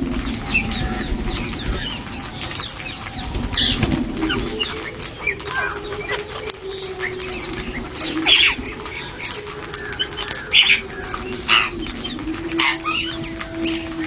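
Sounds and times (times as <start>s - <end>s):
aviary birds calling: 0.0s - 14.0s.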